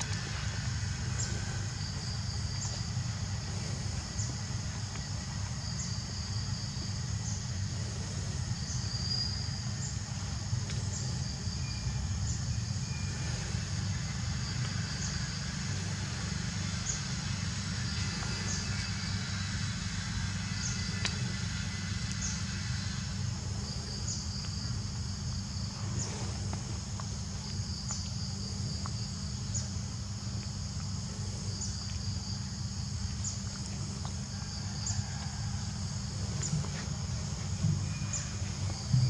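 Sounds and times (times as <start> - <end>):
insects buzzing: 0.0 - 39.0
steady low rumble: 0.0 - 39.0.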